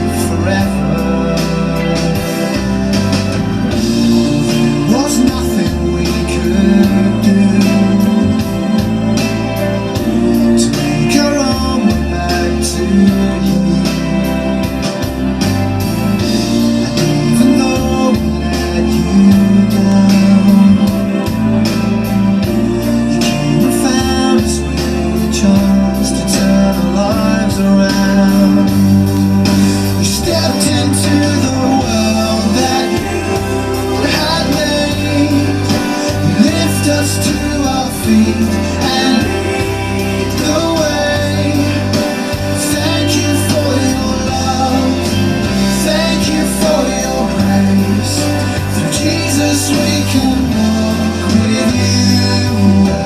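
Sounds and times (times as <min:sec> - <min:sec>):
instrumental backing with beat: 0:00.0 - 0:53.0
voices singing worship song: 0:00.0 - 0:53.0.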